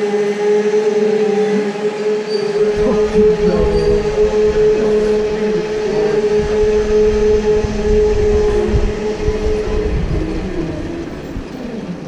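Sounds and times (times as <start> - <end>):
electric go-kart motor whining: 0.0 - 12.0.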